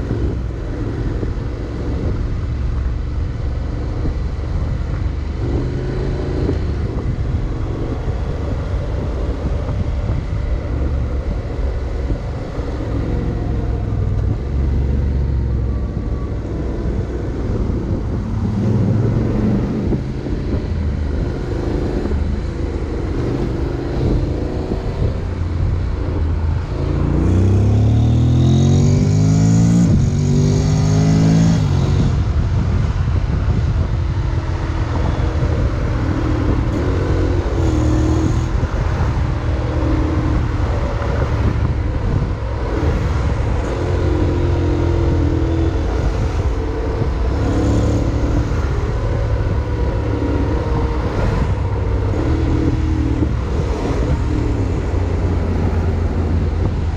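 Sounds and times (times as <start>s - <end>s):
road noise: 0.0s - 56.9s
wind noise: 0.0s - 56.9s.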